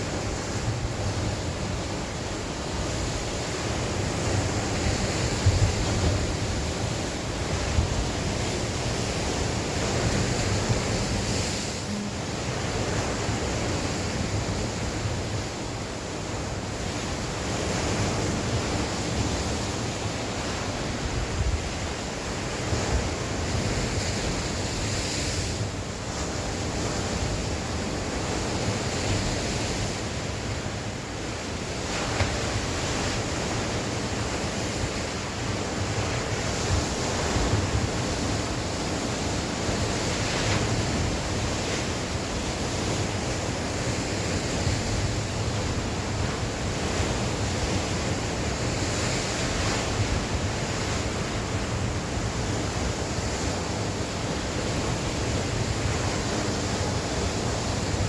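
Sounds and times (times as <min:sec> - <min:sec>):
sea waves breaking on shore: 0:00.0 - 0:58.0
wind buffeting the microphone: 0:00.0 - 0:58.0.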